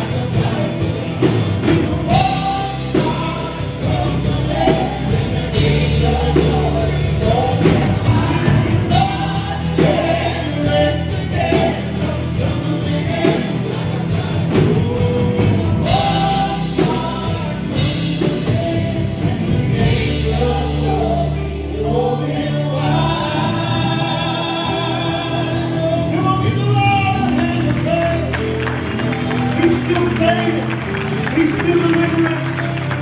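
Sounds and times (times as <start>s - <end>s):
people singing together: 0.0s - 33.0s
worship band playing: 0.0s - 33.0s.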